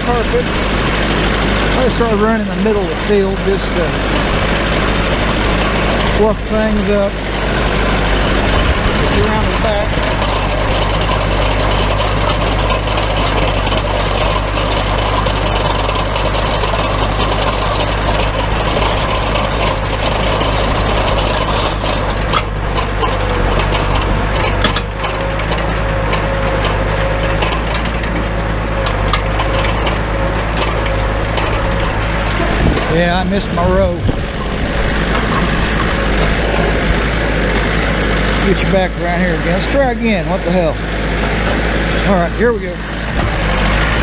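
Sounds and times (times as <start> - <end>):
hay rake tines clattering: 0.0 - 44.0
tractor engine running: 0.0 - 44.0.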